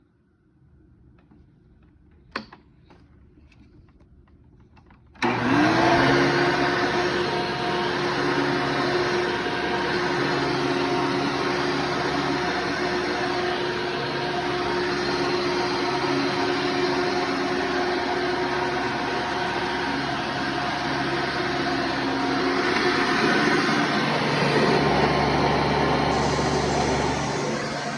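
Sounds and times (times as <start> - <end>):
vacuum cleaner running: 5.2 - 27.9.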